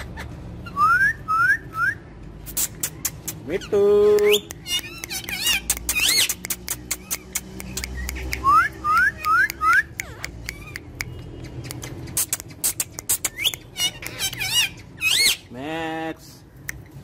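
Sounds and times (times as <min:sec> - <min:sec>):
parakeets chirping and squawking: 0:00.0 - 0:01.8, 0:02.4 - 0:15.6.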